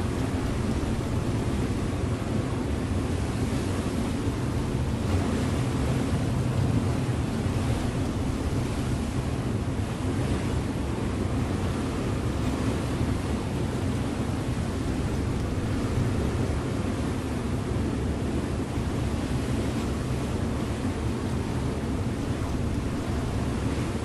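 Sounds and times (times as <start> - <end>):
rushing water: 0.0 - 24.0
ship engine drone: 0.0 - 24.0
wind: 0.0 - 24.0.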